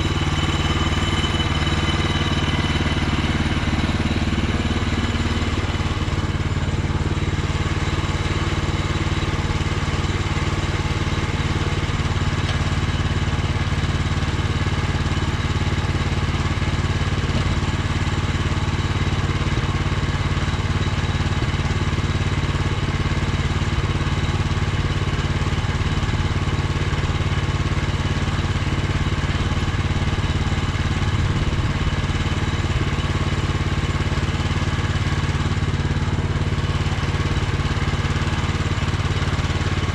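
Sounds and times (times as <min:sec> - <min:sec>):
sawmill petrol engine running: 0:00.0 - 0:39.9.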